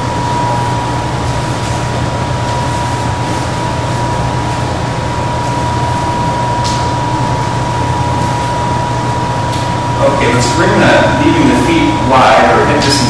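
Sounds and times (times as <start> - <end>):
low hum: 0.0 - 13.0
thin high whine: 0.0 - 13.0.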